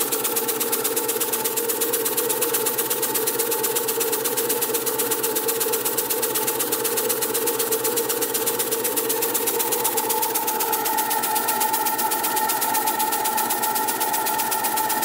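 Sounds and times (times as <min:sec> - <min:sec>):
model steam engine running: 0:00.0 - 0:15.0.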